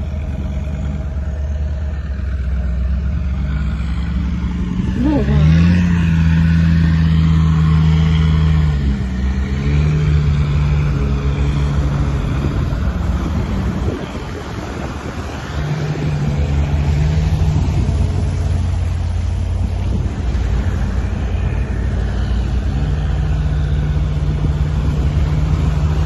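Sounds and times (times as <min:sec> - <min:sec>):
suv engine running under load: 0:00.0 - 0:26.0.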